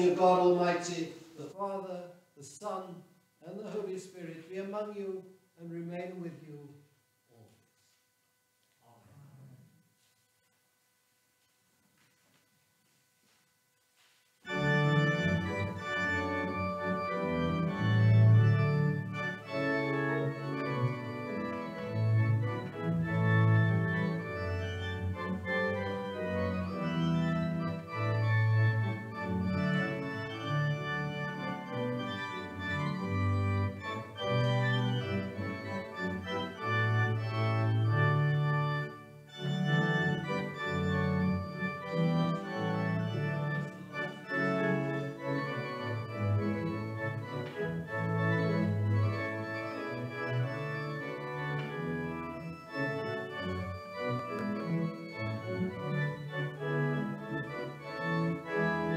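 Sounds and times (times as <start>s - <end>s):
organ chords: 0.0s - 7.5s, 14.4s - 58.9s.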